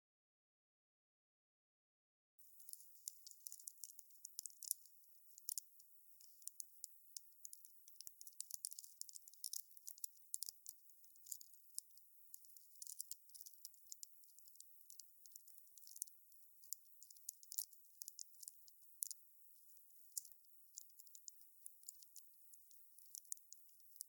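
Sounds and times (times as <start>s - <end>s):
wood fire crackling: 2.4s - 24.0s.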